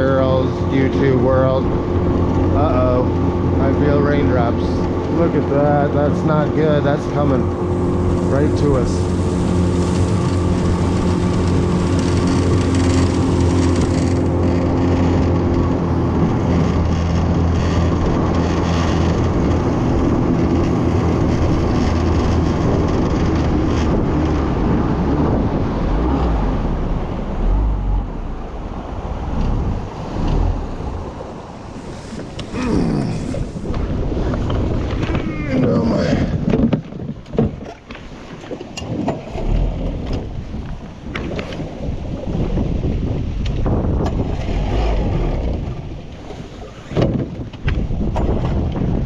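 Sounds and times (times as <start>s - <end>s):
boat motor running hard: 0.0s - 49.0s
wind buffeting microphone: 0.0s - 49.0s.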